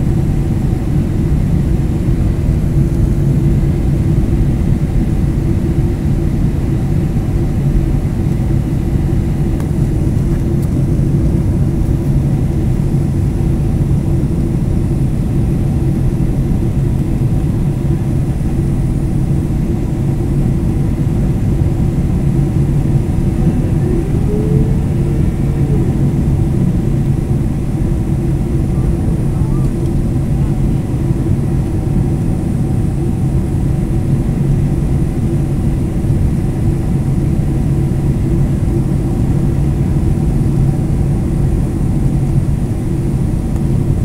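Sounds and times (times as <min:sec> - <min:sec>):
jet engine cabin rumble: 0:00.0 - 0:44.0.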